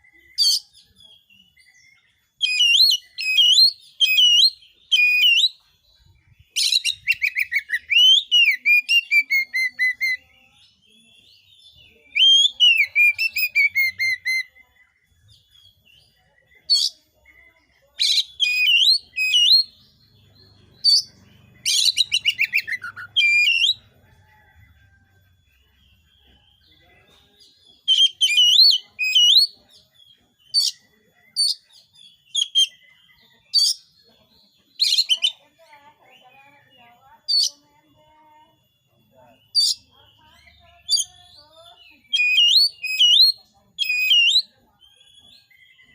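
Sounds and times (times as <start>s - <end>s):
bird singing trills and whistles: 0.0s - 24.6s, 25.6s - 37.7s, 39.4s - 45.9s.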